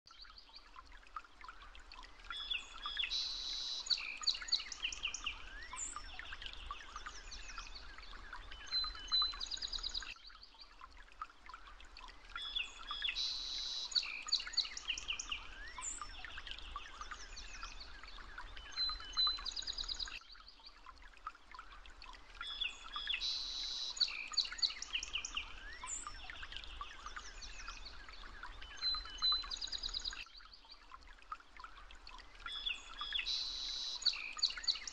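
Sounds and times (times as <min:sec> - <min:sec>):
faint steady hiss: 0:00.4 - 0:34.9
small birds chirping and trilling: 0:02.2 - 0:10.8, 0:12.2 - 0:21.5, 0:22.3 - 0:30.9, 0:32.4 - 0:34.9.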